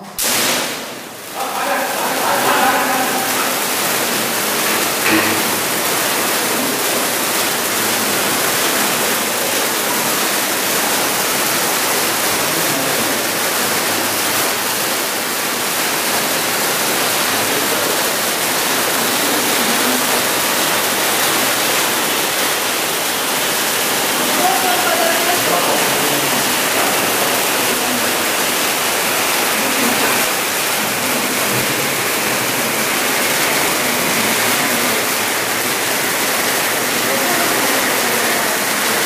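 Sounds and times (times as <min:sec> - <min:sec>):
spark fountains hissing: 0:00.2 - 0:39.0.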